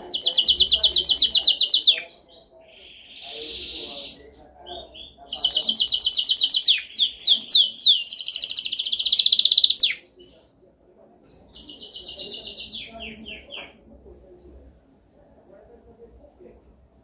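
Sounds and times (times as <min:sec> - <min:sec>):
canary singing trills: 0:00.0 - 0:13.8.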